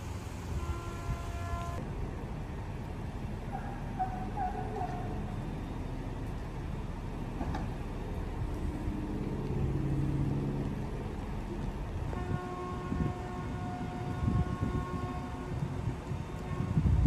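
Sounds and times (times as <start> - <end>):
vehicle engine running: 0.0 - 15.0
low street rumble: 0.0 - 17.0.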